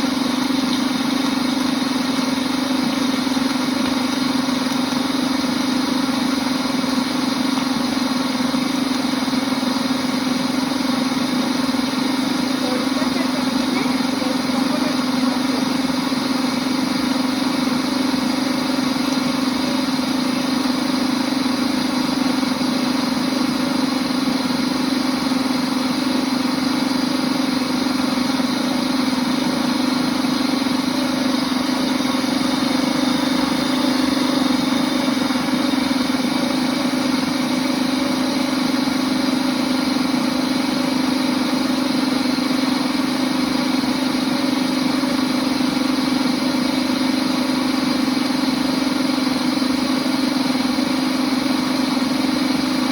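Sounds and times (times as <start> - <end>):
blender motor humming: 0.0 - 52.9.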